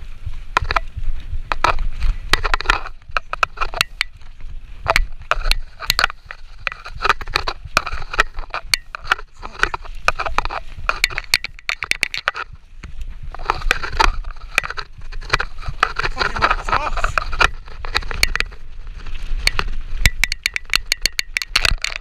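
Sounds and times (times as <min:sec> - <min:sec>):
mountain bike rattling: 0:00.0 - 0:22.0
tyres scrubbing ground: 0:00.0 - 0:22.0.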